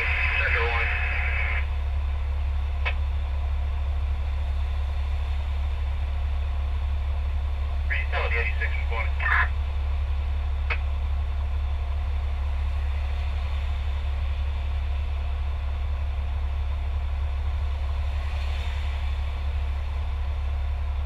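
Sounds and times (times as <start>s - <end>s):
fire truck engine idling: 0.0s - 21.0s.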